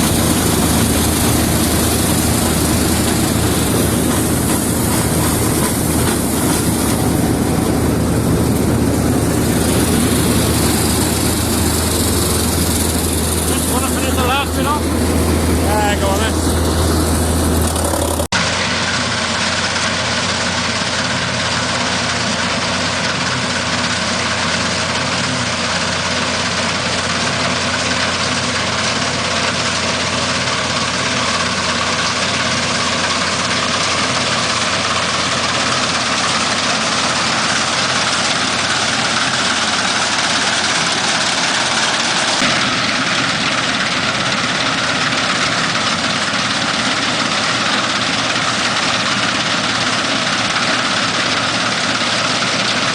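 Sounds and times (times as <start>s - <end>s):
combine harvester engine droning: 0.0s - 52.9s.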